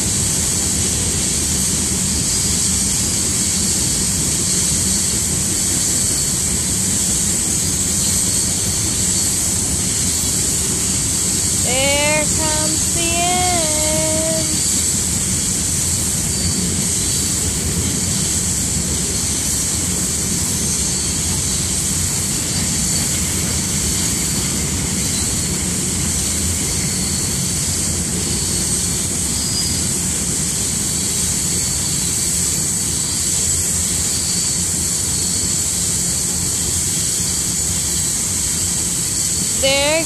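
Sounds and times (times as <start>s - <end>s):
freight train rumbling: 0.0s - 11.6s, 14.4s - 39.9s.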